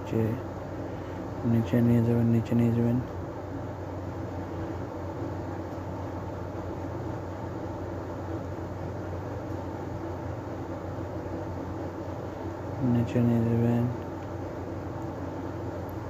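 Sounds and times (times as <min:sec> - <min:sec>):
low background hum and rumbling: 0:00.0 - 0:16.0.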